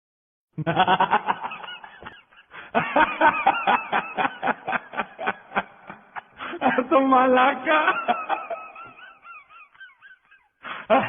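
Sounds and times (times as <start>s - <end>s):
person laughing: 0.6s - 11.0s.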